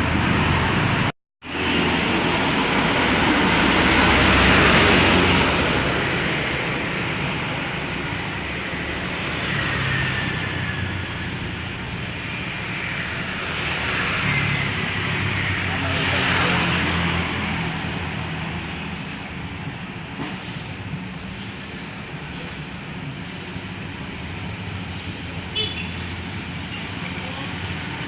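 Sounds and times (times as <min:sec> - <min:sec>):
vehicle noise: 0:00.0 - 0:28.0.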